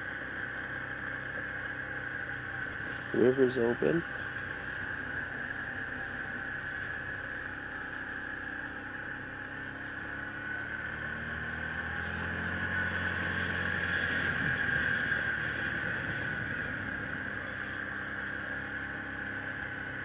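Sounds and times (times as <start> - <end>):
quad bike engine running: 0.0 - 20.0
steady high whine: 0.0 - 20.0.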